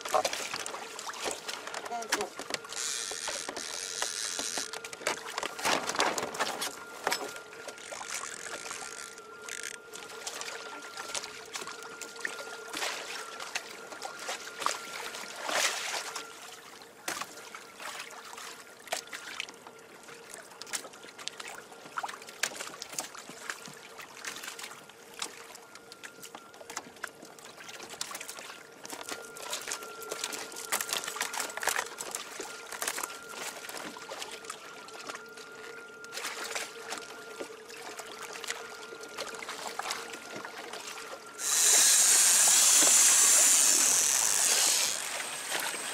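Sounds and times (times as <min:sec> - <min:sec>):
faint steady whine: 0:00.0 - 0:21.9, 0:23.1 - 0:45.9
water splashing against hull: 0:00.0 - 0:45.9.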